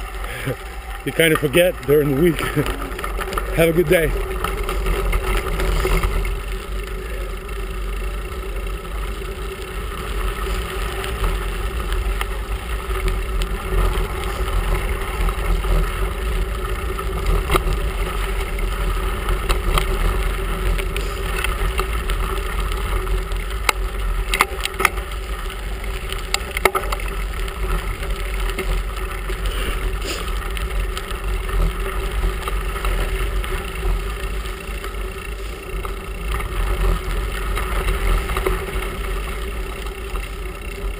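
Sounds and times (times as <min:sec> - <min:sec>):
bicycle tyres rumbling on gravel: 0:00.0 - 0:40.9.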